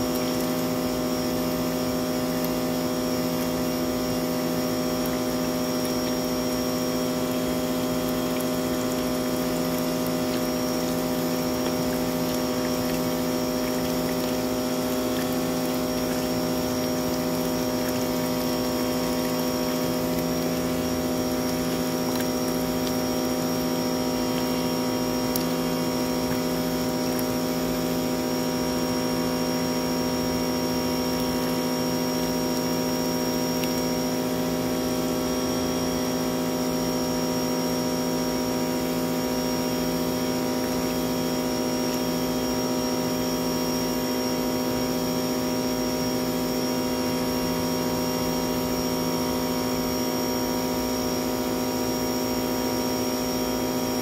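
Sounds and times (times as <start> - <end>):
pressure washer motor and pump hum: 0.0 - 54.0
water gushing from drain pipe: 0.0 - 54.0
water splashing into tub: 0.0 - 54.0.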